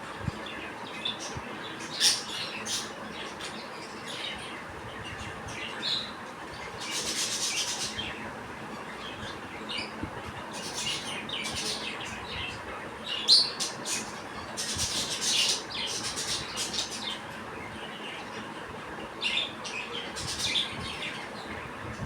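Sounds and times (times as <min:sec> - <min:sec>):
budgies chirping: 0:00.4 - 0:08.3, 0:09.0 - 0:18.5, 0:19.2 - 0:21.6.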